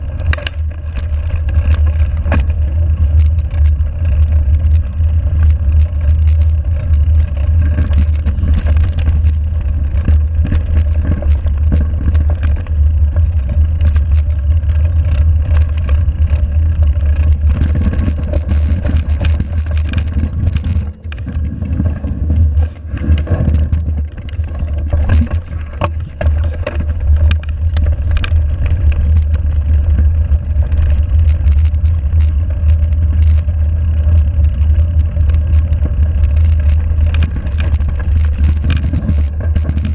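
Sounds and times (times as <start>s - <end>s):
bike clicks and rattles: 0.0s - 39.9s
tyres rolling over snow and gravel: 0.0s - 39.9s
wind rumble: 0.0s - 39.9s.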